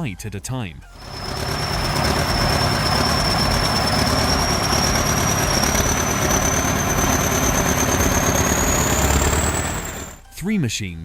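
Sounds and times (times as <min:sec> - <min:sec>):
heavy machinery running: 0:00.9 - 0:10.2
high-pitched whine: 0:00.9 - 0:10.2.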